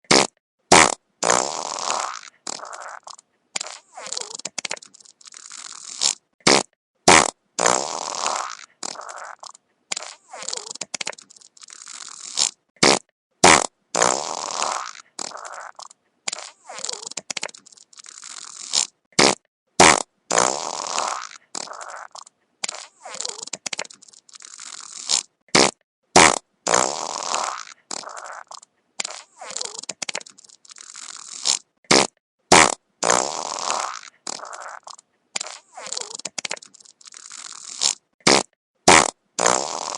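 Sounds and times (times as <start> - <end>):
wet fart sound effect: 0.0 - 39.9.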